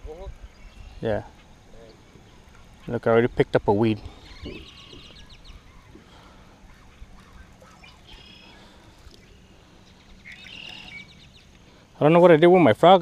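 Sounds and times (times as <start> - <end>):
faint outdoor background: 0.0 - 13.0
birds calling: 0.1 - 13.0.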